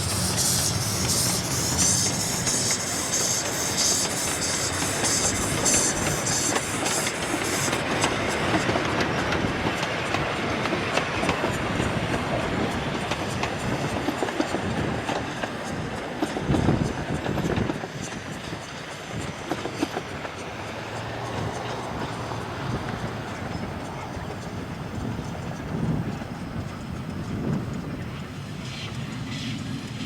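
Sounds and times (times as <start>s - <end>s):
steam train running: 0.0s - 30.0s
wheels clicking over rail joints: 0.0s - 30.0s.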